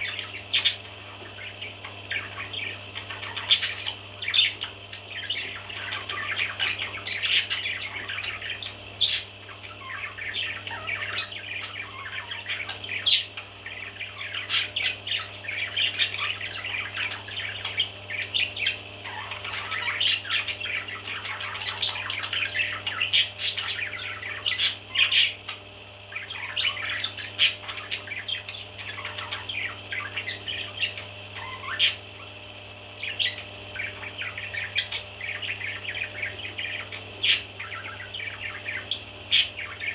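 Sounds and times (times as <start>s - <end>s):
baby parrots chirping and squawking: 0.0s - 32.4s, 33.0s - 39.9s.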